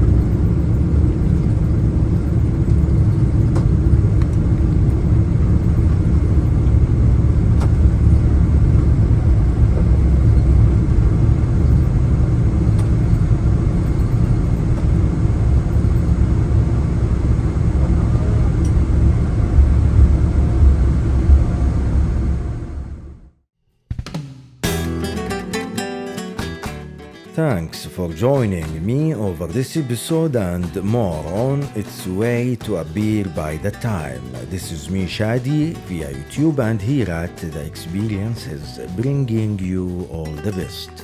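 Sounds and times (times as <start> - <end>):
jet engines and airflow rumbling: 0.0 - 23.4, 30.2 - 40.7.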